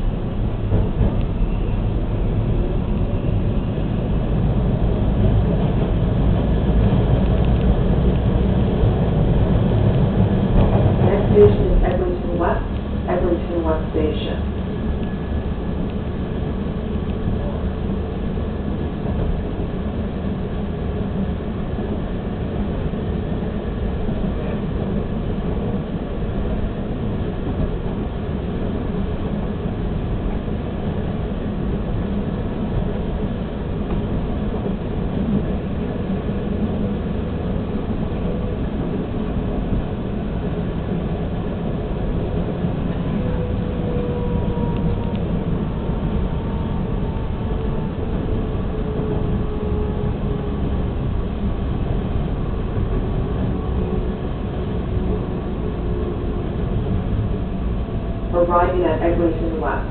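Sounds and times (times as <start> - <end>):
subway train running: 0.0 - 59.9.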